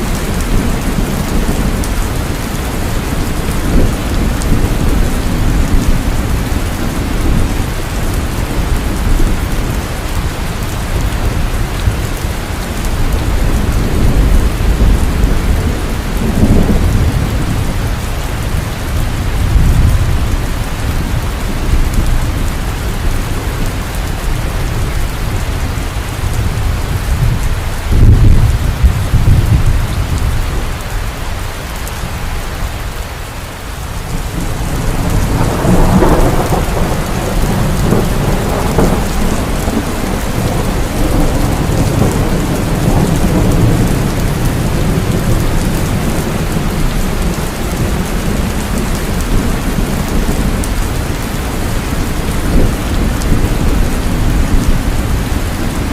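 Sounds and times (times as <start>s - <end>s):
thunder rumbling: 0.0s - 33.2s, 33.8s - 55.9s
heavy rain: 0.0s - 55.9s.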